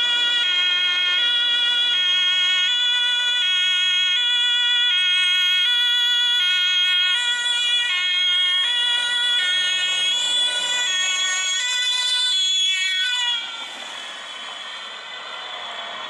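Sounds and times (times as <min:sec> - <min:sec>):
two-tone police siren: 0:00.0 - 0:16.0.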